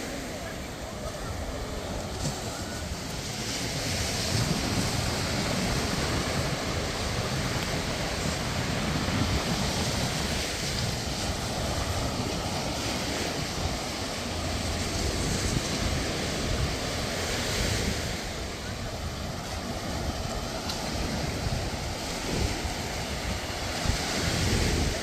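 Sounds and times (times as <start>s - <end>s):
surf breaking on beach: 0.0s - 25.0s
wind on microphone: 0.0s - 25.0s.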